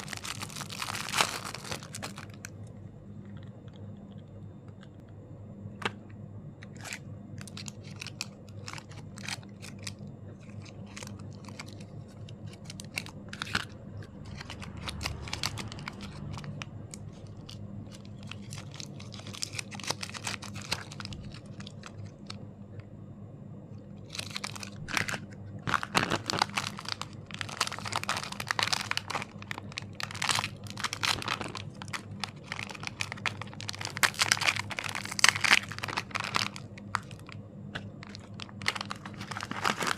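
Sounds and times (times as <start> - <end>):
light clicks and crinkles: 0.0 - 2.6, 6.6 - 22.9, 24.0 - 39.9
wrapper crinkling and tearing: 0.0 - 2.6, 6.6 - 22.4, 24.0 - 39.9.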